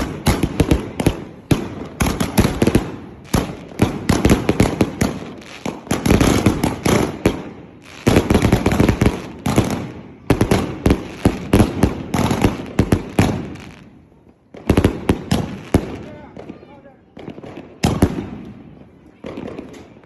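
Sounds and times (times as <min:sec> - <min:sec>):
firework aerial bursts: 0:00.0 - 0:16.6.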